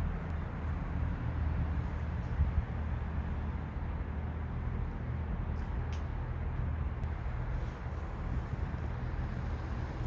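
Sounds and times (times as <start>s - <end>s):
street background rumble: 0.0s - 10.0s.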